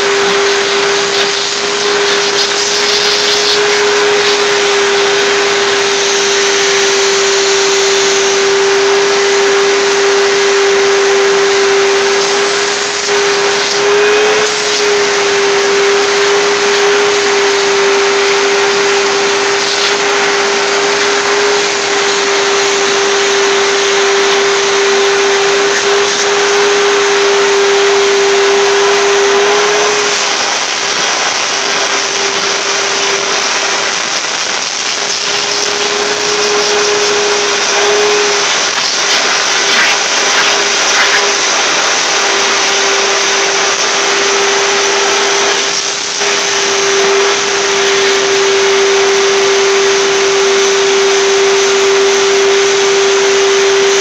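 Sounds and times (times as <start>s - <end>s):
shop vacuum whining: 0.0s - 54.0s.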